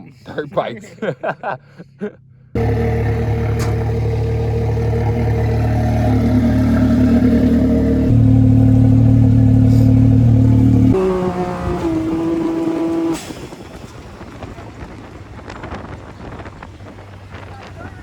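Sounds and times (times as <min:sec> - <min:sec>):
dirt bike engine: 0:02.6 - 0:18.0.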